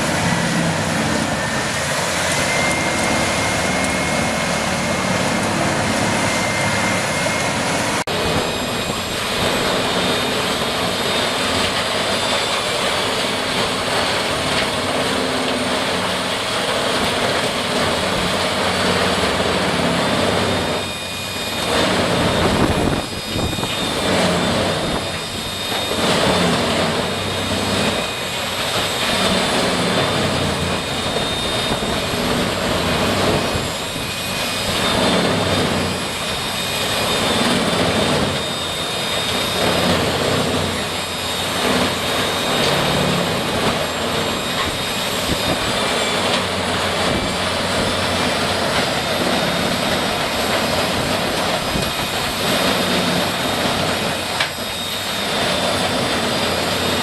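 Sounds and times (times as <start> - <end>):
loud machinery running: 0.0 - 57.0.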